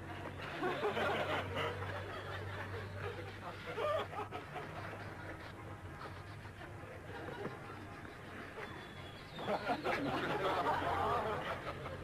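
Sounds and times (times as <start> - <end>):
people chuckling and laughing: 0.0 - 12.0.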